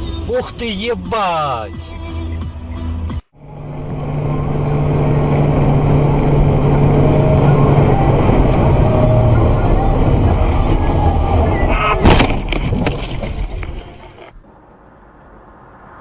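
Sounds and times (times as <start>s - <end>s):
car engine: 0.0s - 16.0s
road noise: 0.0s - 16.0s.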